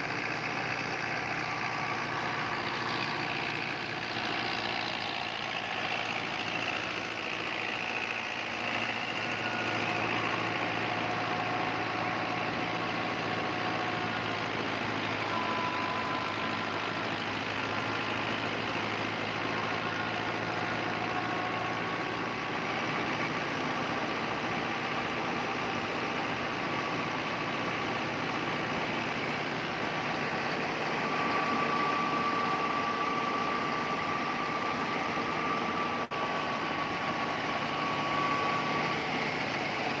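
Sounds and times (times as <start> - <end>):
thresher churning: 0.0 - 40.0
tractor diesel engine running: 0.0 - 40.0.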